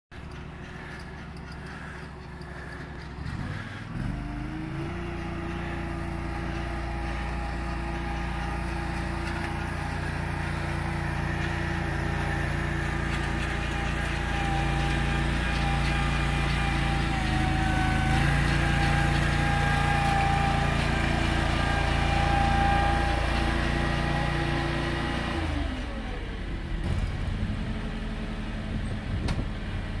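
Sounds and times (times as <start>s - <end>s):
lawn tractor engine revving: 0.1s - 30.0s.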